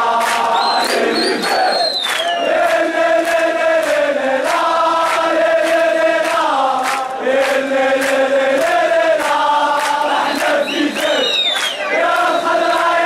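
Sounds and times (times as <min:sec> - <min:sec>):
crowd chanting in unison: 0:00.0 - 0:13.0.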